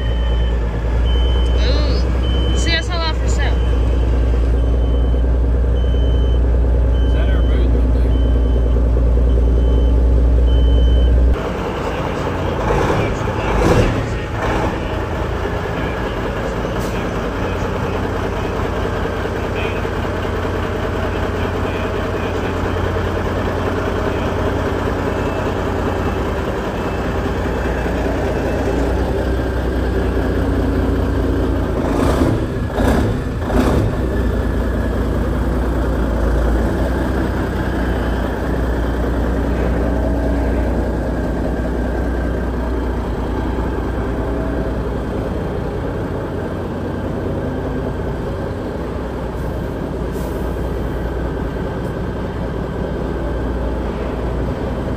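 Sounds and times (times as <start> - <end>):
truck diesel engine idling: 0.0 - 54.9.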